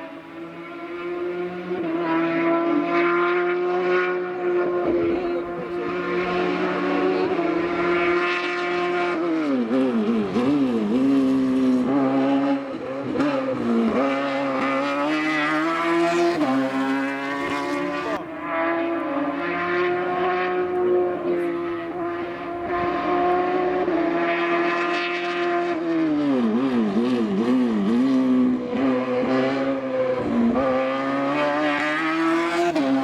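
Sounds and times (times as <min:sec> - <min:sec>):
racing car engine at high revs: 0:00.0 - 0:33.0.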